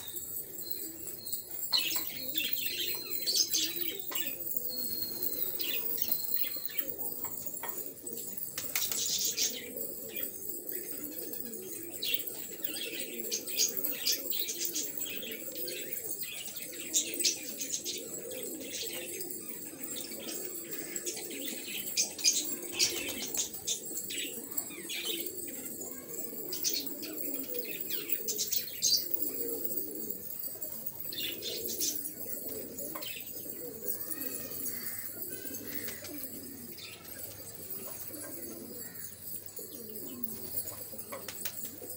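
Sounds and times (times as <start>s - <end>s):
pigeons cooing: 0.0s - 41.9s.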